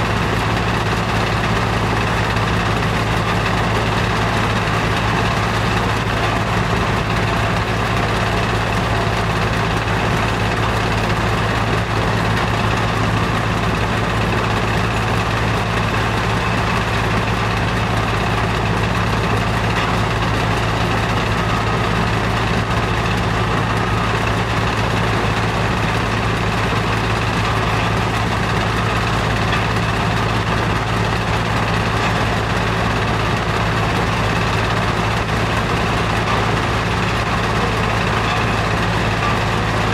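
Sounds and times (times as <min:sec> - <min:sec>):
machinery drone with low hum: 0:00.0 - 0:39.9.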